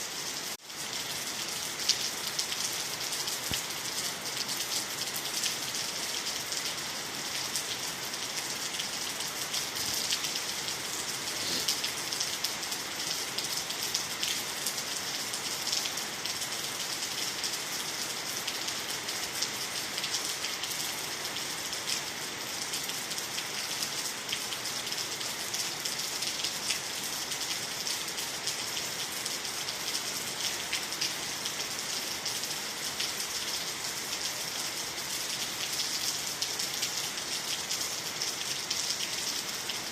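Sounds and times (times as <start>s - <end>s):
rain on water trees and ground: 0.0s - 39.9s.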